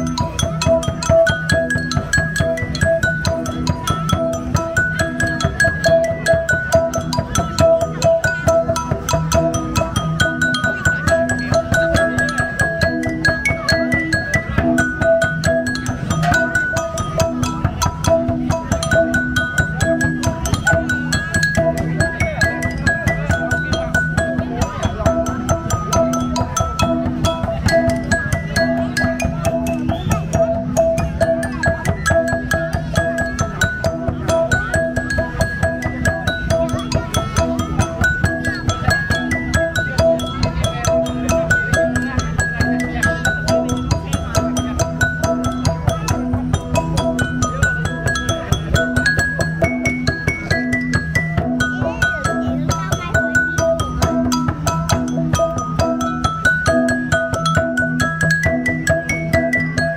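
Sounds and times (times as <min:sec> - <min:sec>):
stone lithophone melody: 0:00.0 - 0:59.9.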